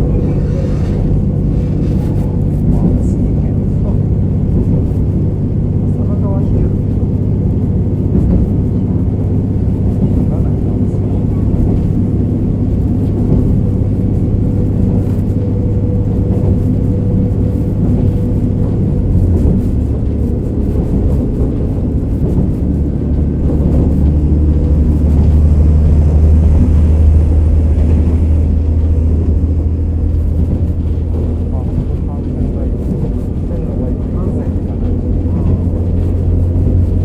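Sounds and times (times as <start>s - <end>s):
diesel engine drone: 0.0s - 37.0s
train wheel and rail noise: 0.0s - 37.0s.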